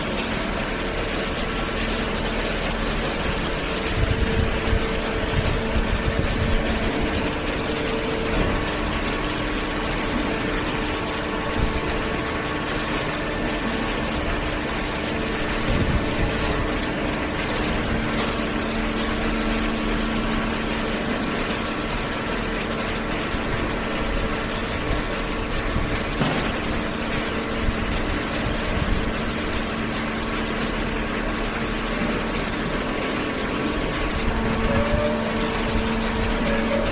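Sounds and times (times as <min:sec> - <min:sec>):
hydraulic power unit humming: 0:00.0 - 0:36.9.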